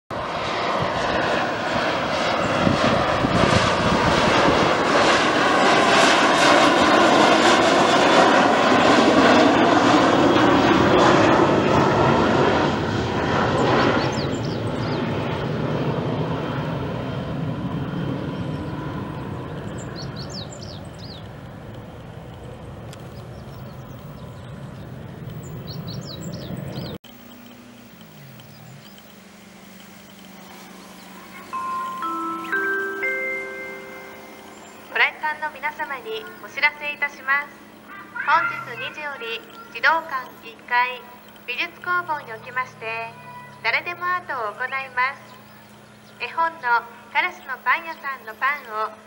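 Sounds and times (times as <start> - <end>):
jet flyover: 0.1 - 49.0.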